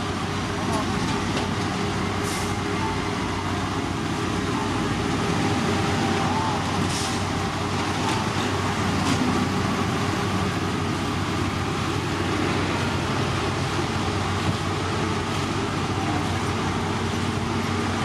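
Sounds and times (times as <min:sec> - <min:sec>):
heavy machinery engine drone: 0:00.0 - 0:18.0.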